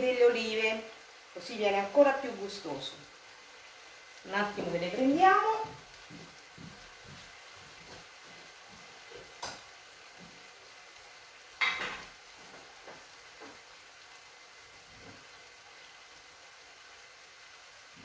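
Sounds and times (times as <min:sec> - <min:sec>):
risotto simmering in pan: 0:00.0 - 0:18.0.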